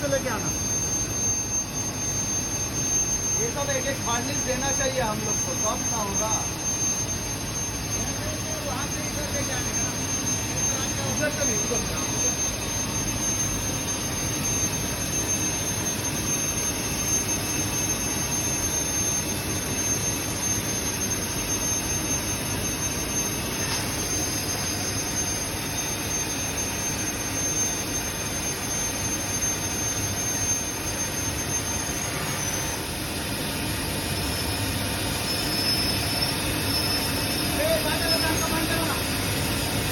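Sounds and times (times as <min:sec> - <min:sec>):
high-pitched machine whine: 0:00.0 - 0:39.9
industrial machinery noise: 0:00.0 - 0:39.9.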